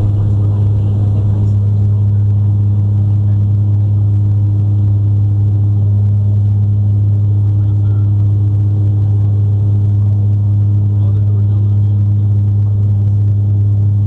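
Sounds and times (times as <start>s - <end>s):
airliner engines droning: 0.0s - 14.0s.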